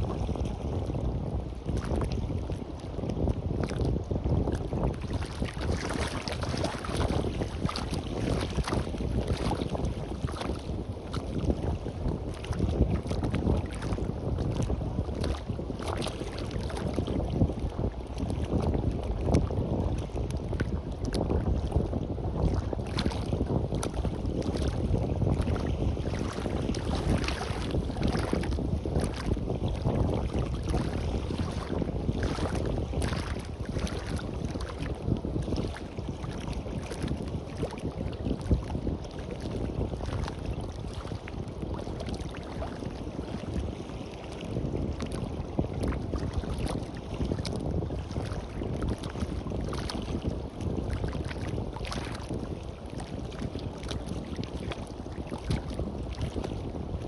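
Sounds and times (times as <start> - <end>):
sea washing on a beach: 0.0 - 57.0
wind buffeting microphone: 0.0 - 57.0.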